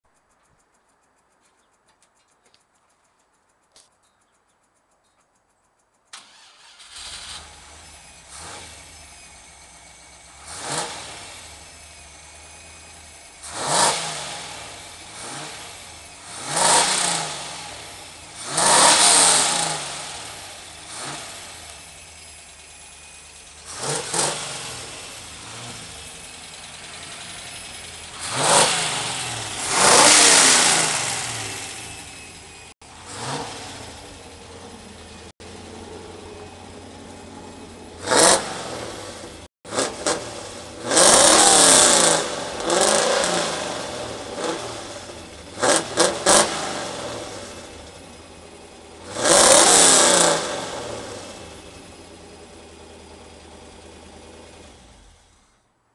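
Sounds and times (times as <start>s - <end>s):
car engine idling and revving: 0.1s - 5.0s, 5.6s - 55.9s.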